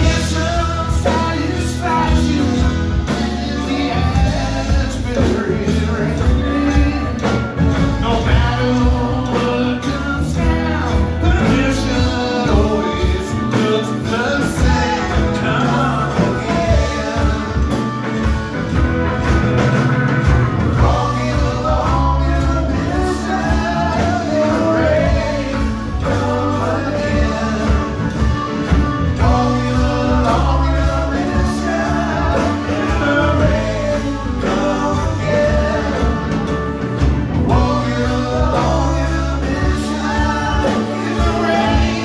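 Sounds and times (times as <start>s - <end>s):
drums: 0.0s - 42.0s
electric bass: 0.0s - 42.0s
electric guitars: 0.0s - 42.0s
keyboards: 0.0s - 42.0s
lead vocal singing: 0.0s - 42.0s.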